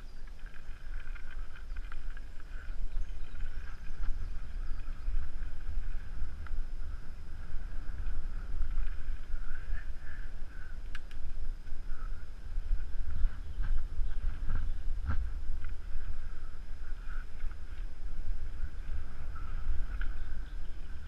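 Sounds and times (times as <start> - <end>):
mountain bike rumbling on gravel: 0.0 - 21.0
wind buffeting microphone: 0.0 - 21.0.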